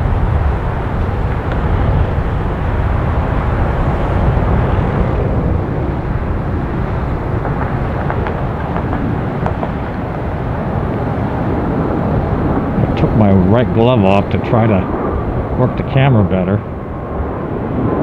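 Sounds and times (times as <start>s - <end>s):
distant jet rumble: 0.0s - 18.0s
wind rumbling on microphone: 0.0s - 18.0s.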